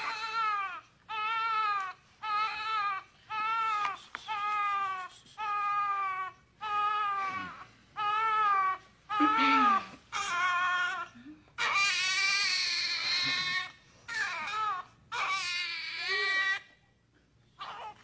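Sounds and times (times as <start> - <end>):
high-pitched wailing cries: 0.0 - 16.8, 17.6 - 18.0.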